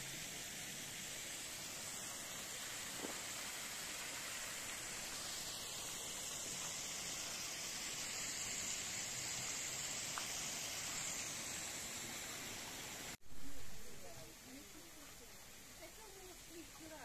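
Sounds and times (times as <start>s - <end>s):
waterfall splashing over rocks: 0.0s - 13.2s, 13.8s - 17.0s.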